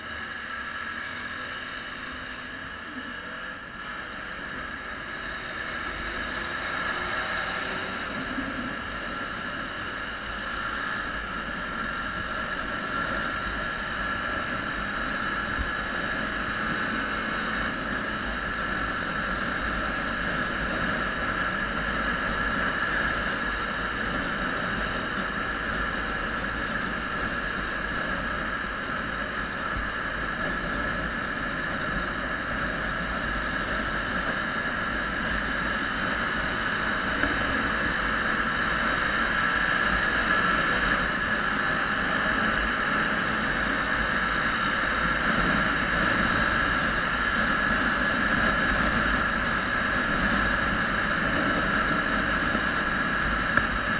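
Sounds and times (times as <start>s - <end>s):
motorcycle engine cruising: 0.0s - 53.9s
wind rushing over microphone: 3.5s - 53.9s.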